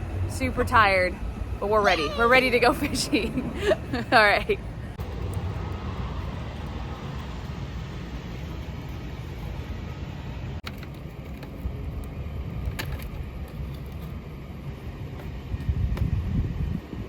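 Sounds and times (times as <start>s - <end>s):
road vehicle rumble: 0.0s - 17.0s.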